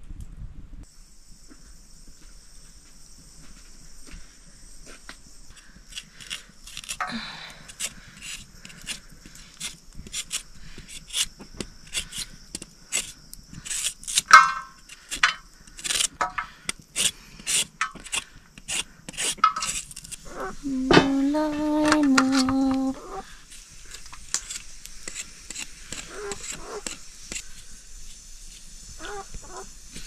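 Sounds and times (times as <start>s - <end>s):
rhythmic scraping of squash root: 2.2s - 30.0s.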